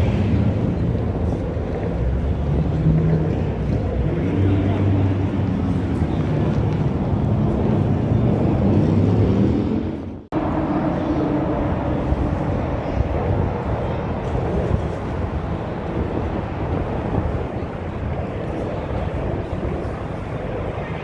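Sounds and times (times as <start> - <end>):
steady engine drone: 0.0 - 21.0.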